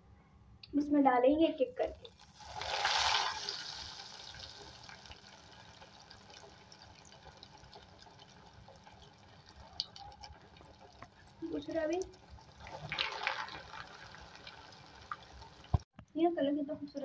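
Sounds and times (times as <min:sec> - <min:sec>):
hot oil sizzling: 0:02.1 - 0:15.9
oil popping: 0:02.1 - 0:15.9.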